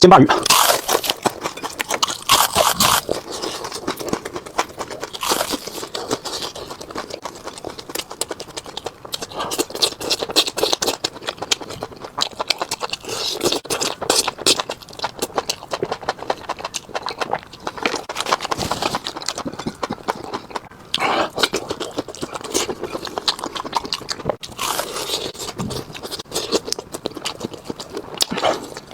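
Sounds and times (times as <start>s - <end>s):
crunching and chewing: 0.3s - 28.9s.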